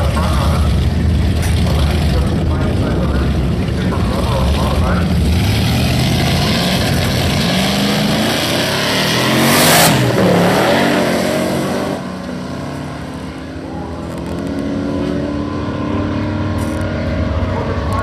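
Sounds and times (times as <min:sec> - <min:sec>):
car engine at hard throttle: 0:00.0 - 0:18.0.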